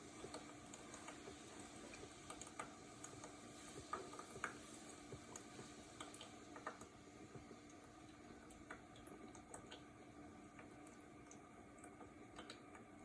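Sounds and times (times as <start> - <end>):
humidifier faint hum: 0.0 - 13.0.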